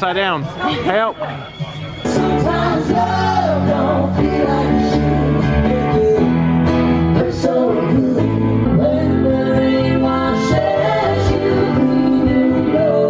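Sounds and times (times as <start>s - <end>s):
keyboard: 0.0s - 13.0s
person singing: 2.1s - 13.0s.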